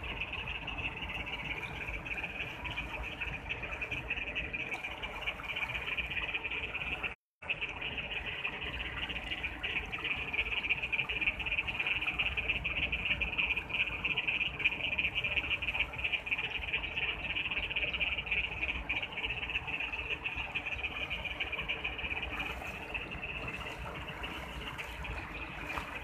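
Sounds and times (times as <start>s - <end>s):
frogs trilling: 0.0s - 26.0s.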